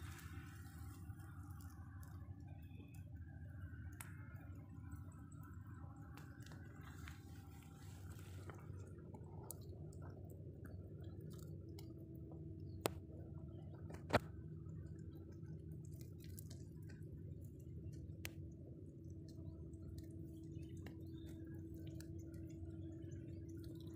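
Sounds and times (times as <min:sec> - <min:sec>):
fire crackling and ticking: 0:00.0 - 0:23.9.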